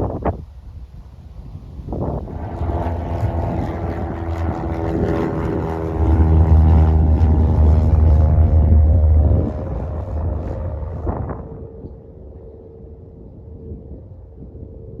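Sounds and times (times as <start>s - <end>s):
propeller airplane engine: 1.9s - 13.9s.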